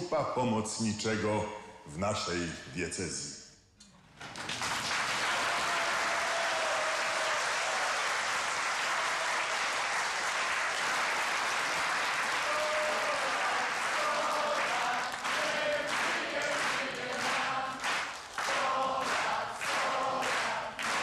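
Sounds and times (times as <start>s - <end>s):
crowd applauding: 4.2s - 21.0s.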